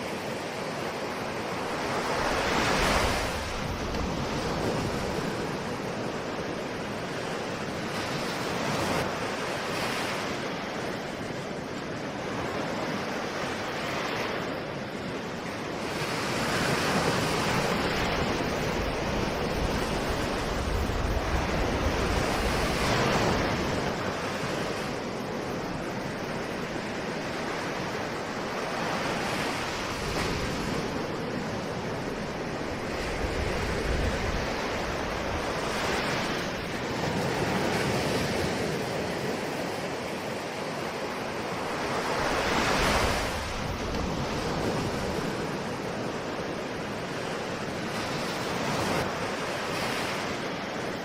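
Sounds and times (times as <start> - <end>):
ocean waves breaking: 0.0 - 51.0.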